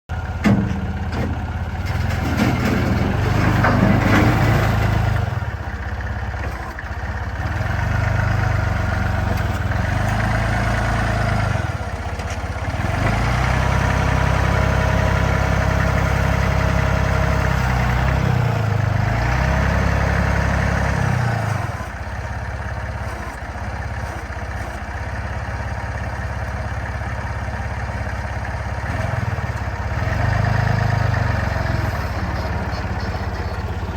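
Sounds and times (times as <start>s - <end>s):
forklift engine revving: 0.2s - 33.9s.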